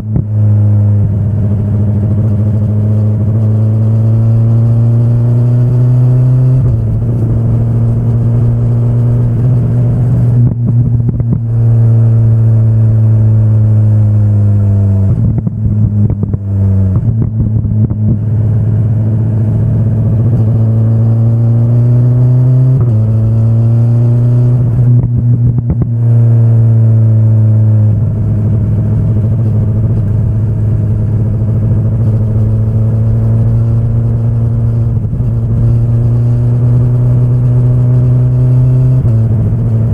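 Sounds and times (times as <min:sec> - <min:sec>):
rattly exhaust crackle: 0:00.0 - 0:04.4, 0:06.6 - 0:13.9, 0:14.6 - 0:21.3, 0:24.5 - 0:39.9
motorcycle engine revving: 0:00.0 - 0:39.9.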